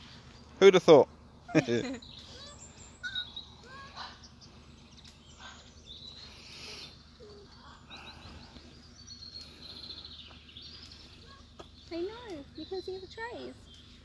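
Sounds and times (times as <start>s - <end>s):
bird chirps and calls: 1.2s - 14.0s.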